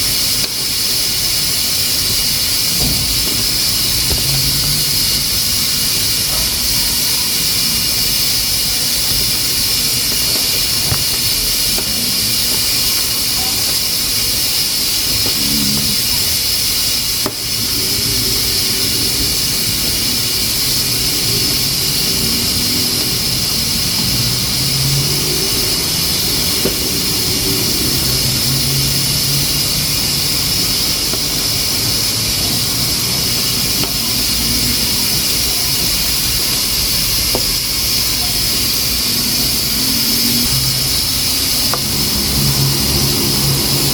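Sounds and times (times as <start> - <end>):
pressure cooker hissing: 0.0 - 43.9.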